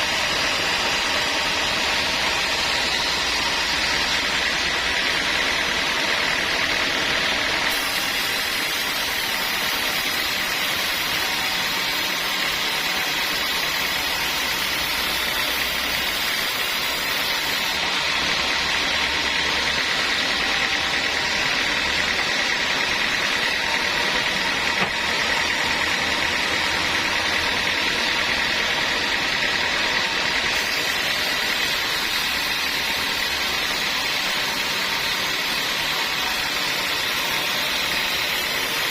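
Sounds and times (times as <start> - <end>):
sawmill saw whirring: 0.0 - 38.9.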